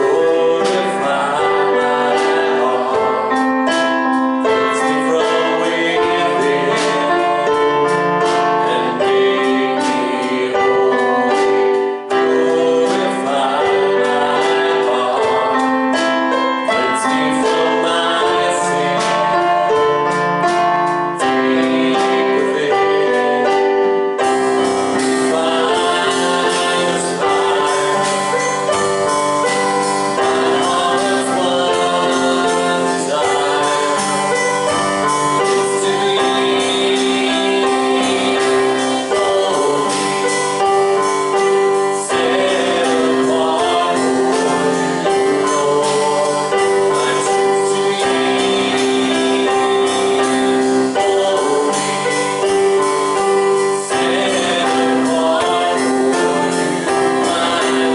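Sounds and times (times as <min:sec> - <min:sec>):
people singing praise: 0:00.0 - 0:57.9
piano or keyboard chords: 0:00.0 - 0:57.9.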